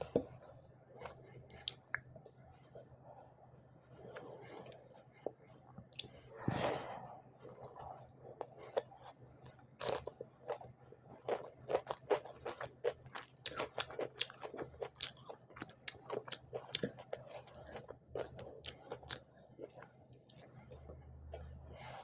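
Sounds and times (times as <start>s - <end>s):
close-miked chewing: 0.0s - 6.2s, 7.4s - 22.0s.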